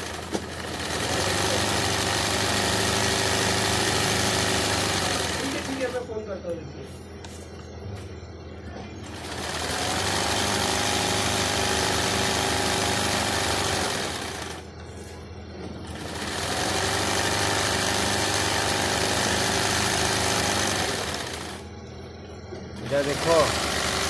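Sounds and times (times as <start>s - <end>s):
sewing machine motor whine: 0.0s - 6.2s, 9.0s - 14.7s, 15.8s - 24.0s.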